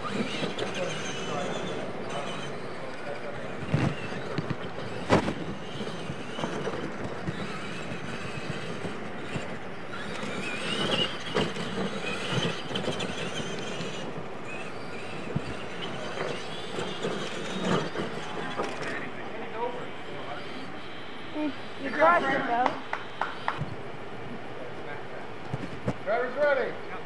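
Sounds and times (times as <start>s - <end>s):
electric toy truck motors whining: 0.0s - 23.8s.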